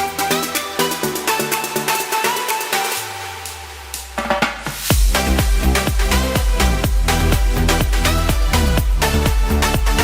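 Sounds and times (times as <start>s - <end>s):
electronic music with synth melody: 0.0s - 10.0s.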